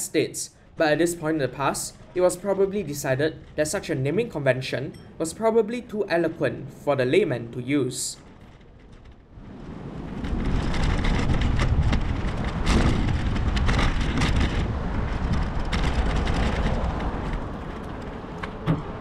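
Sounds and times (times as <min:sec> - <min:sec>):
crackles: 0:00.0 - 0:19.0
road traffic rumble: 0:00.0 - 0:19.0.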